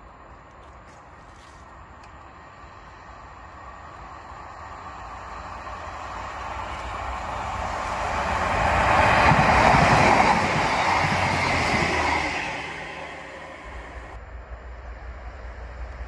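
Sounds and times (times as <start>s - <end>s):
passenger train passing: 0.0s - 16.0s.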